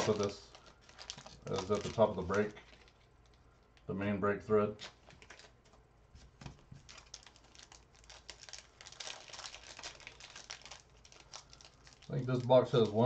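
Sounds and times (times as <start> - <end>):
packaging crinkling and clicking: 0.0 - 3.9, 4.8 - 13.0.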